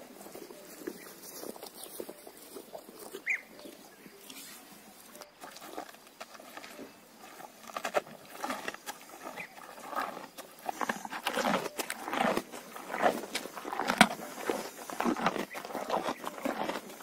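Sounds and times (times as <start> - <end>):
cow chewing vegetables: 0.0 - 17.0.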